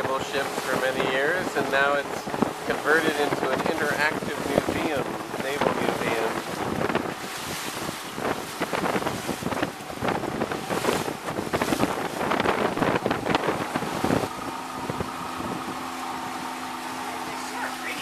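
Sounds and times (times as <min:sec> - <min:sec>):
boat motor hum: 0:00.0 - 0:18.0
water rushing past boat: 0:00.0 - 0:18.0
wind buffeting microphone: 0:00.0 - 0:18.0.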